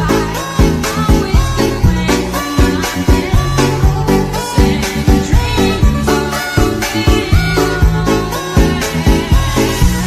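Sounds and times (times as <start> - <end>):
dance music with heavy bass: 0.0 - 10.0
synth melody: 0.0 - 10.0.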